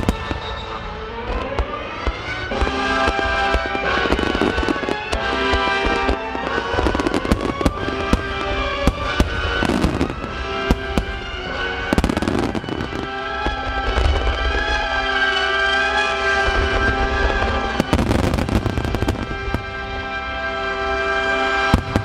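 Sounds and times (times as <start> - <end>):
fireworks bangs and crackling: 0.0 - 22.0
music with long held notes: 0.0 - 22.0.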